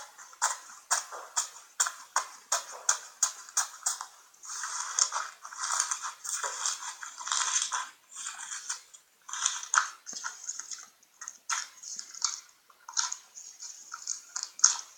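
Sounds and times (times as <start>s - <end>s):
slime squishing by hand: 0.0s - 14.9s.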